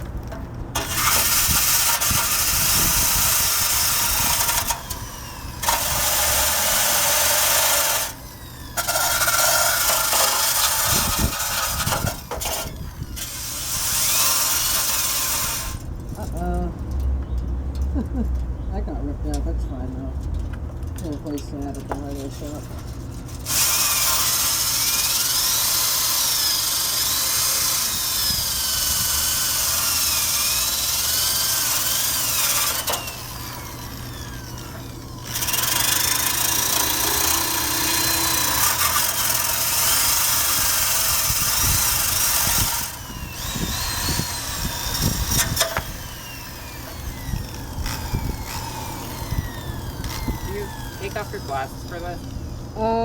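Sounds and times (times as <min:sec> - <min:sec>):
power drill wire brush on metal: 0:00.8 - 0:15.8, 0:22.0 - 0:52.6.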